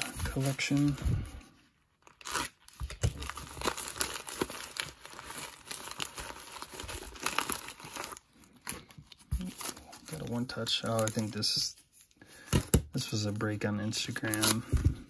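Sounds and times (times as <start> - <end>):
plastic mailer tearing and crinkling: 0.0 - 1.0, 2.0 - 11.5, 13.1 - 14.8.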